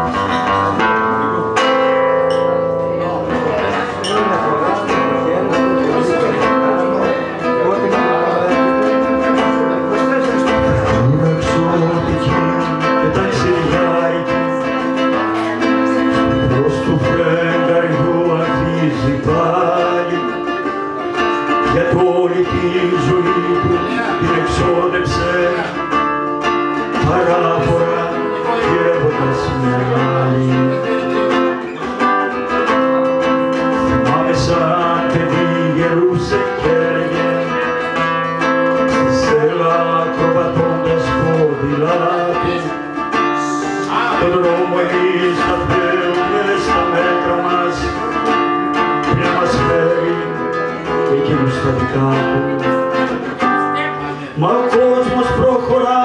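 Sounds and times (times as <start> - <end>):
man singing: 0.0 - 56.0
plucked string accompaniment: 0.0 - 56.0.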